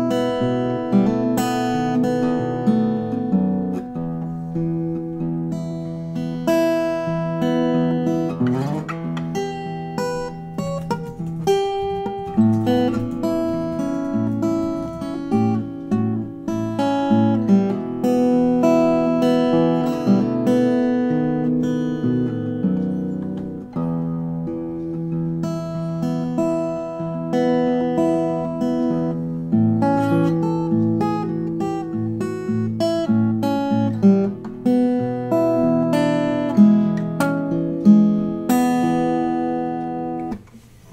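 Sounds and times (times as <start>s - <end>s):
acoustic guitar picking: 0.0s - 40.9s.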